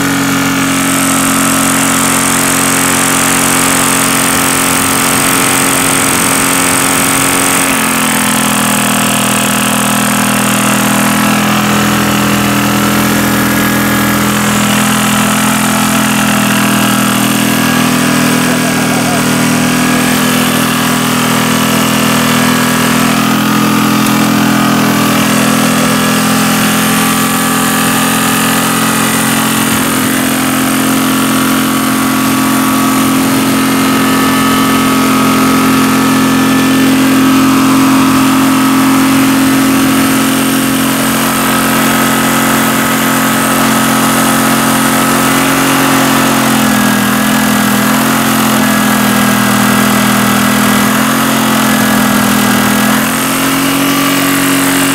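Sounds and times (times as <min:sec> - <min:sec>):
generator engine running: 0:00.0 - 0:54.9.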